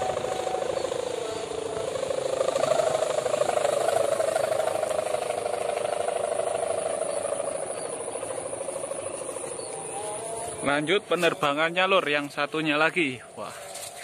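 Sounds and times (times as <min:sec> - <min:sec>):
kite hummer droning in wind: 0:00.0 - 0:14.0.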